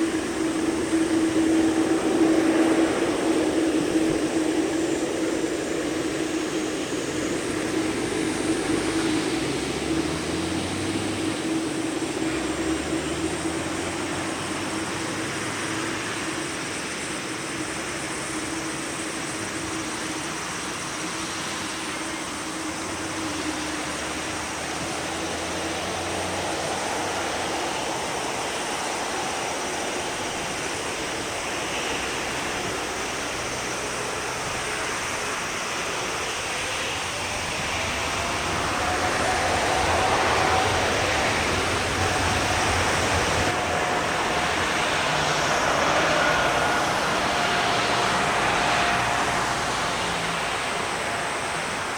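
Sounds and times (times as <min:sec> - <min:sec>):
jet engines roaring: 0:00.0 - 0:51.9.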